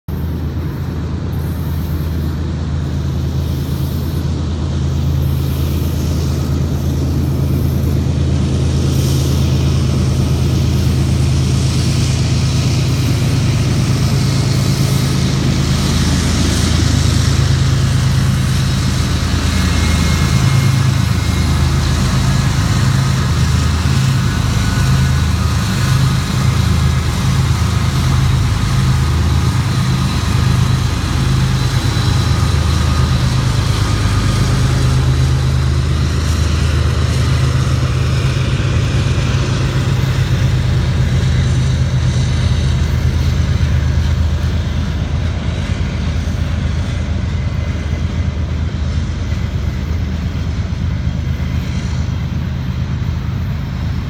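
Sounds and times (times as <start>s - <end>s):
locomotive engine drone: 0.0s - 54.0s
train rushing noise: 0.1s - 54.0s.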